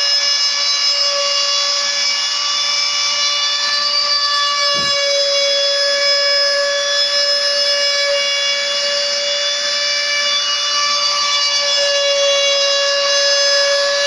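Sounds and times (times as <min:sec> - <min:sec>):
machine spindle high-pitched whine: 0:00.0 - 0:14.0.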